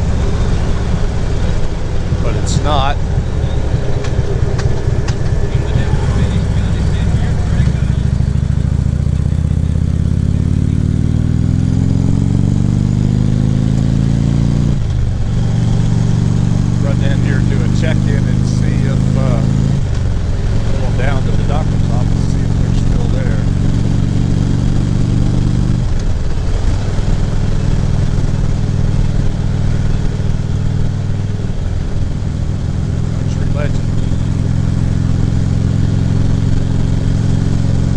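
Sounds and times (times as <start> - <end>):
motorcycle engine accelerating: 0.0 - 37.9.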